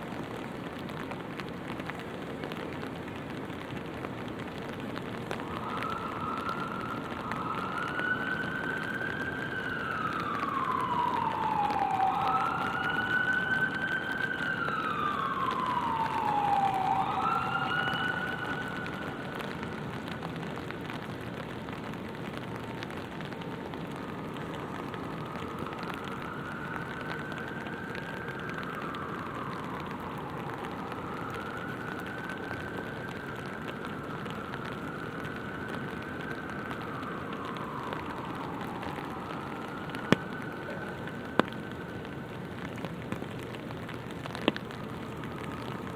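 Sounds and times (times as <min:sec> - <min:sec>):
rain hissing: 0:00.0 - 0:45.9
emergency siren wailing: 0:02.2 - 0:45.9.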